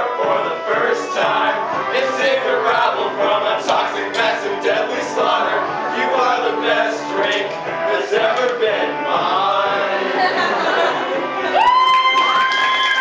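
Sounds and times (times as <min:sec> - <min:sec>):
young men singing together: 0:00.0 - 0:11.3
backing music track: 0:00.0 - 0:13.0.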